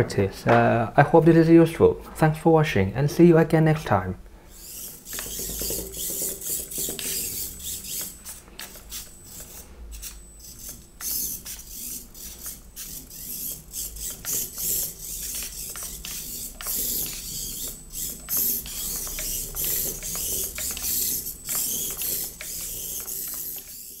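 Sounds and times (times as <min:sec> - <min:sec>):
toy car motor whirring: 0:04.5 - 0:24.0.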